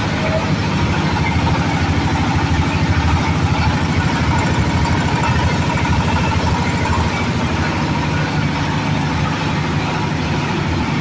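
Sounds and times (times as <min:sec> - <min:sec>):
threshing machine engine pulsing: 0:00.0 - 0:11.0.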